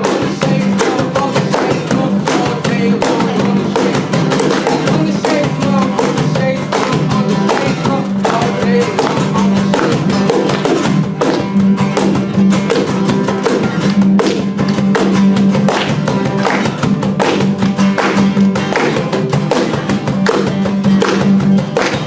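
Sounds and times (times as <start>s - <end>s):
guitar: 0.0s - 22.0s
steady beat: 0.0s - 22.0s.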